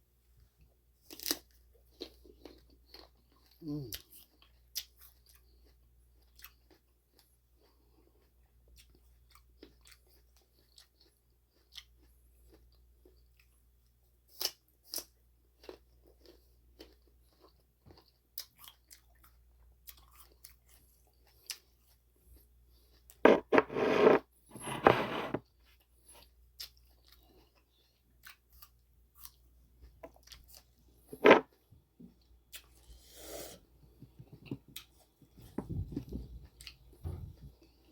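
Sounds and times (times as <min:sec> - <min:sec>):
person chewing apples: 0:01.0 - 0:37.9.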